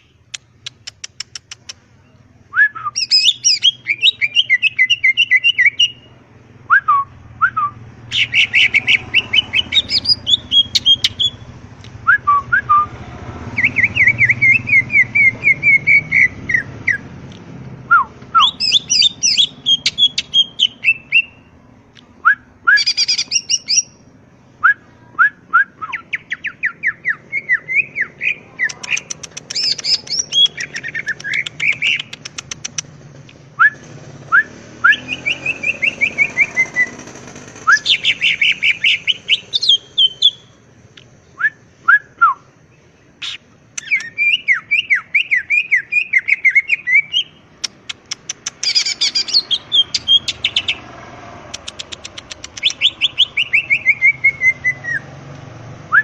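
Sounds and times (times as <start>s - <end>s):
leafbird singing: 0.0s - 12.9s, 13.5s - 17.1s, 17.9s - 55.1s.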